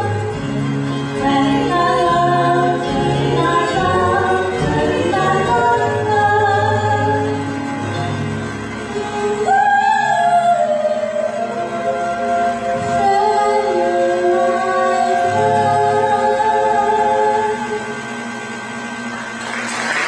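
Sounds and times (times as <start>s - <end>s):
group singing in harmony: 0.0s - 8.3s, 9.0s - 18.3s.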